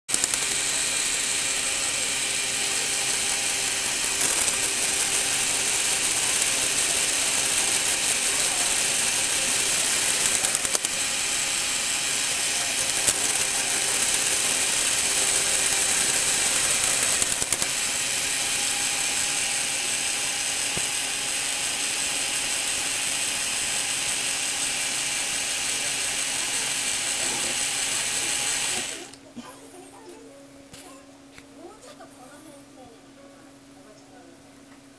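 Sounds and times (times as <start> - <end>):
whir of plastic gears meshing: 0.1 - 29.2.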